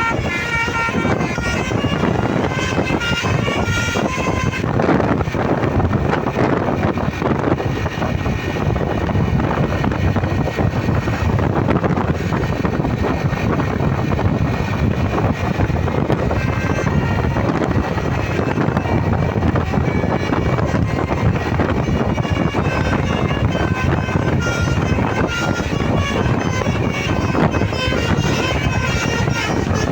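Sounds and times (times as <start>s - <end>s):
buses passing: 0.0s - 29.9s
wind buffeting microphone: 0.0s - 29.9s.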